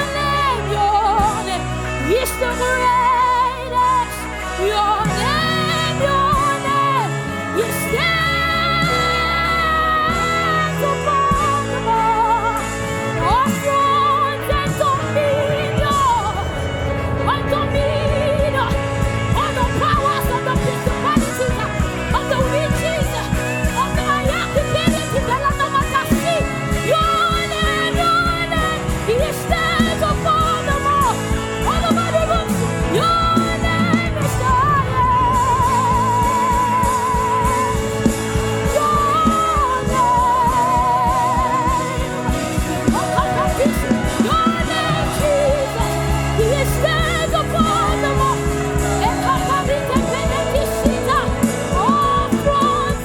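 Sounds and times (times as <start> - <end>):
gospel band playing: 0.0 - 53.0
person singing with vibrato: 0.0 - 53.0.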